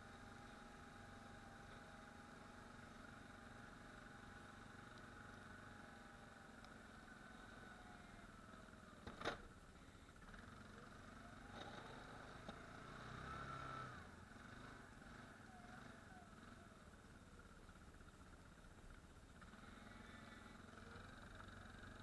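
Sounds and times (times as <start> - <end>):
atv engine revving: 0.0 - 18.3, 19.3 - 22.0.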